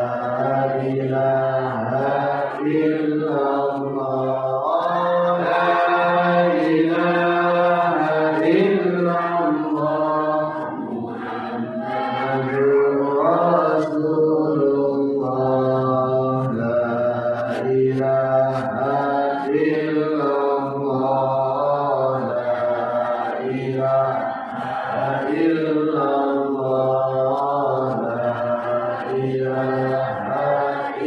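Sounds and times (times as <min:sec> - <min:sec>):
person chanting melodically: 0:00.0 - 0:31.0.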